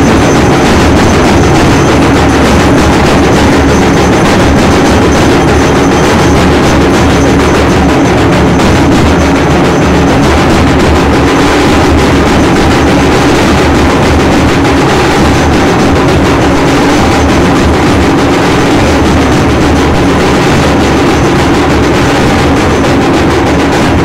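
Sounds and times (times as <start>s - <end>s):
drums beaten: 0.0s - 24.0s
gongs beaten: 0.0s - 24.0s.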